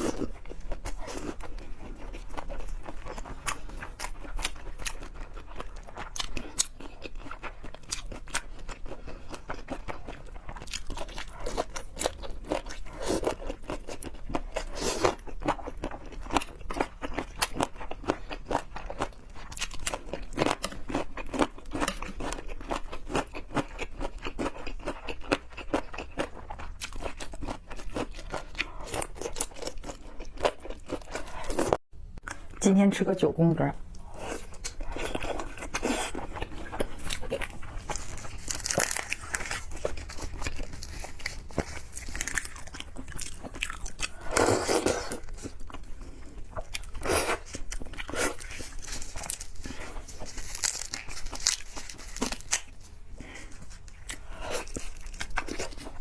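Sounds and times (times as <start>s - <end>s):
crunching and chewing: 0.0s - 32.6s, 33.9s - 56.0s.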